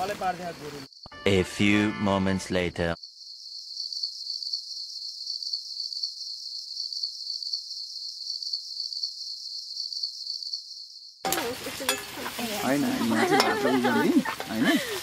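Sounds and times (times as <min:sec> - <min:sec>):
crickets chirping: 0:00.0 - 0:01.2, 0:03.0 - 0:15.0.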